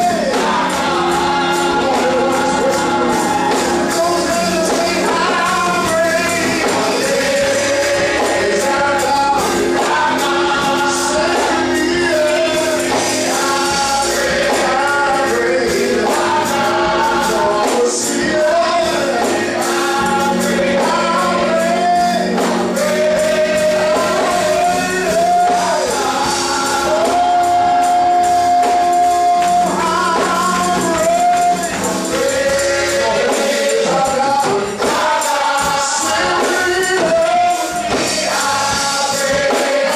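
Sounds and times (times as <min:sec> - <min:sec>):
gospel choir singing: 0:00.0 - 0:39.9
held accompanying chords: 0:00.0 - 0:39.9.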